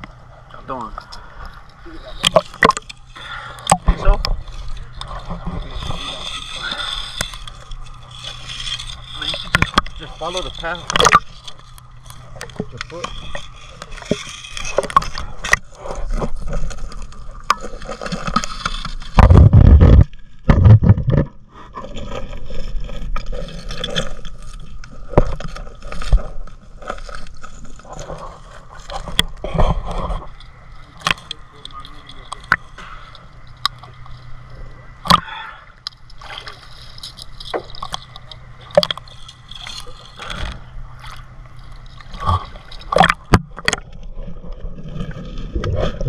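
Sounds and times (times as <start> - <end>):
underwater knocks and clicks: 2.2 - 3.0, 3.6 - 34.3, 35.0 - 46.0.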